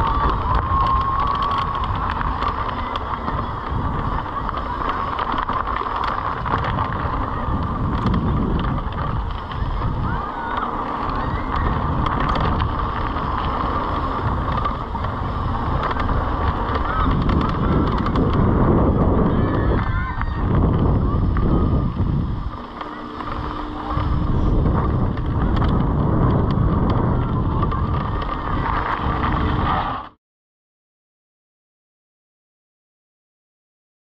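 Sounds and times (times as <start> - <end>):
thin wavering whine: 0.0 - 30.1
bike rattling and clicking: 0.0 - 30.2
tyres rolling on gravelly dirt: 0.0 - 30.2
wind on microphone: 0.0 - 30.2.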